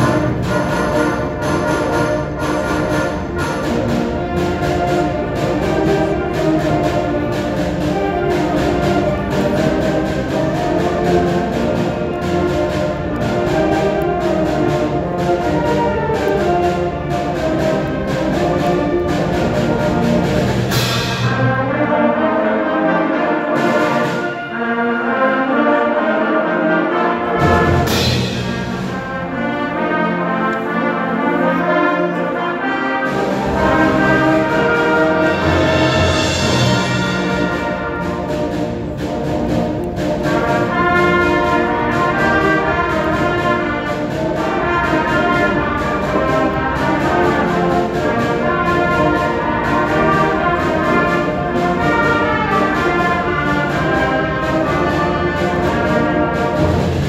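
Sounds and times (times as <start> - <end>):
steady percussion beat: 0.0 - 22.3, 27.3 - 30.3, 32.1 - 57.0
concert band playing: 0.0 - 57.0.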